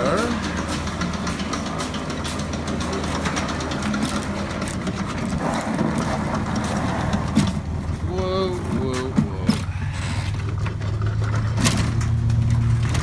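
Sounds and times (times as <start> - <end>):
lawn mower wheels rattling: 0.0 - 13.0
low engine hum: 0.0 - 13.0.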